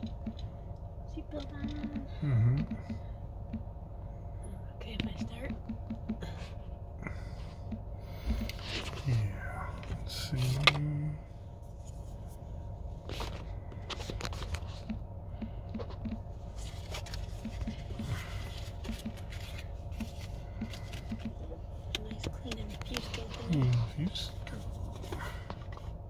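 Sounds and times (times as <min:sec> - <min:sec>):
car cabin rumble: 0:00.0 - 0:26.0.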